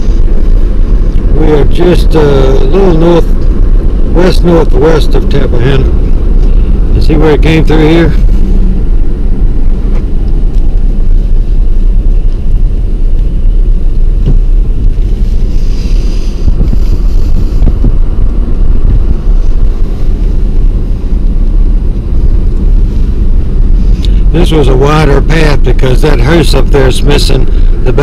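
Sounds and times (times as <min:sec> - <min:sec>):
engine and tyre rumble in cabin: 0:00.0 - 0:28.0.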